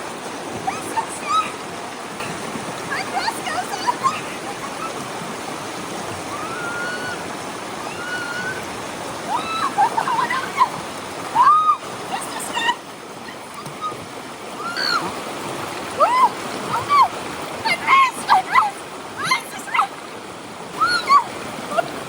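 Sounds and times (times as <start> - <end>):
creek rushing: 0.0 - 22.0.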